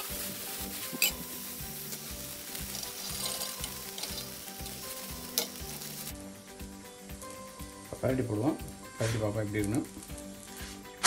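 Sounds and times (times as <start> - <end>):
frying hiss in a pan: 0.0 - 11.0.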